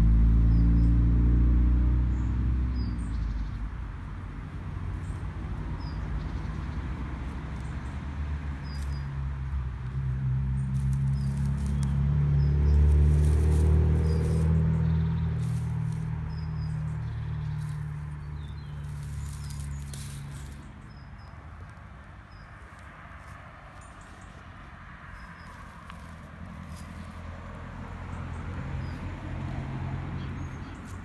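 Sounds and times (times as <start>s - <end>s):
footsteps rustling dry grass: 3.9s - 29.2s.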